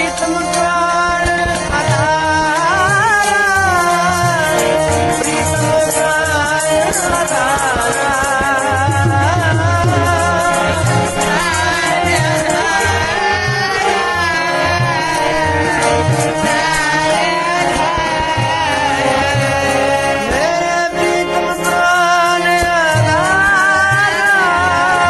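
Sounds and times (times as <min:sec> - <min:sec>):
harmonium tones: 0:00.0 - 0:25.0
men singing devotional song: 0:00.0 - 0:25.0
tabla rhythm: 0:00.0 - 0:25.0.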